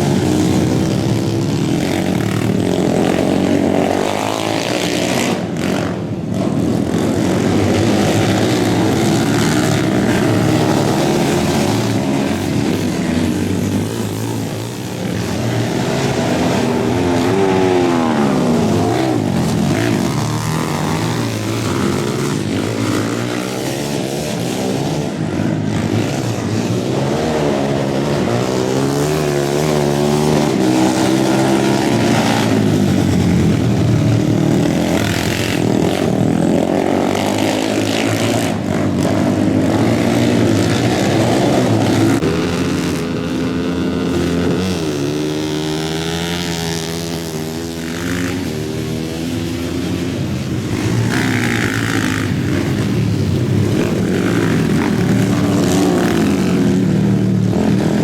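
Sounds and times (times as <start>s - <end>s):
racing engines revving: 0.0s - 58.0s.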